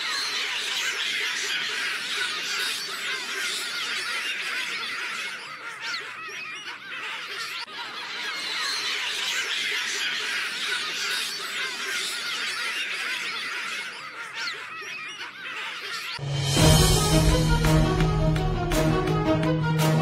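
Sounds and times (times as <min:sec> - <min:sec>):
baboons screaming and shrieking: 0:00.0 - 0:16.2.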